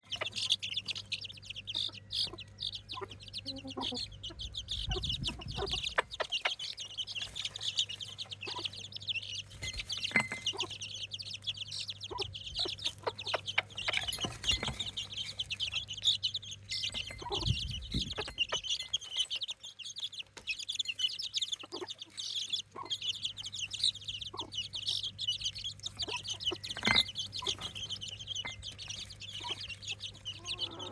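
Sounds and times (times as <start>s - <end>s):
baby chicks peeping: 0.0s - 30.9s.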